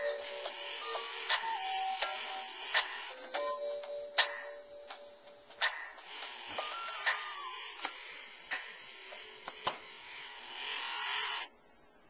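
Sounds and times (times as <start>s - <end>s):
steady whirring hiss: 0.0s - 12.0s.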